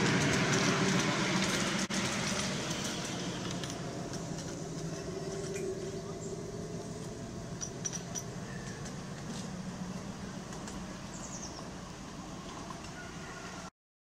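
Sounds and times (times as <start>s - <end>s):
miniature train rumbling: 0.0s - 13.7s
wheels clicking on rails: 0.0s - 13.7s.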